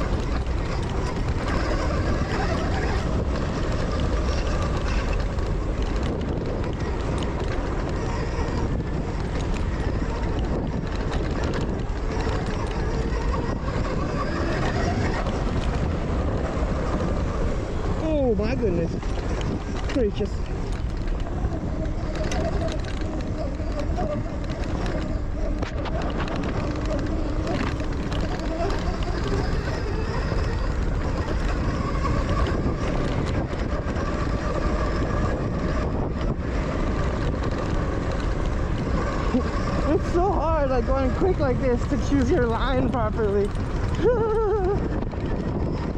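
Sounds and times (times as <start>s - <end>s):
electric motor whine: 0.0s - 45.9s
tyres rumbling on dirt: 0.0s - 45.9s
wind buffeting microphone: 0.0s - 45.9s.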